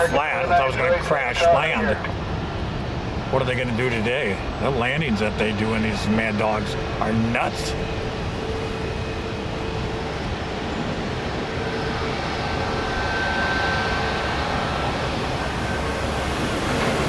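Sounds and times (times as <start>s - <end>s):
faint high whine: 0.0s - 17.0s
jet engines running: 0.0s - 17.0s.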